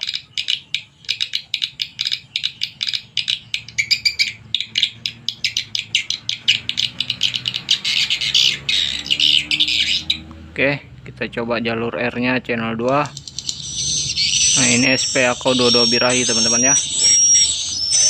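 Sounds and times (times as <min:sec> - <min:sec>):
high bird chirps from speakers: 0:00.0 - 0:10.3, 0:13.0 - 0:18.0.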